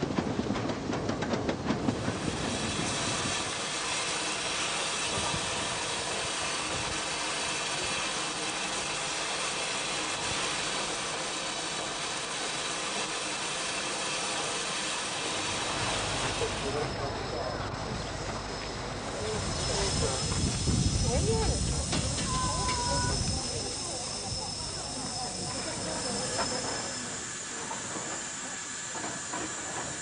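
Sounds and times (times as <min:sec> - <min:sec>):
steam hissing: 0:01.8 - 0:30.0.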